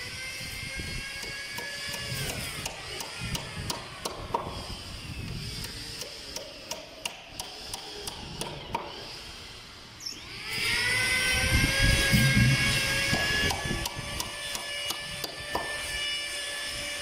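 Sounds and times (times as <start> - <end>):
power tool motor whining: 0.0 - 17.0.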